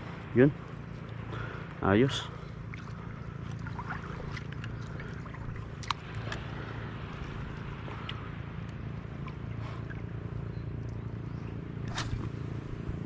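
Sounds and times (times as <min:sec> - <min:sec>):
shallow seawater lapping: 0:00.0 - 0:13.0
steady low hum: 0:00.0 - 0:13.0.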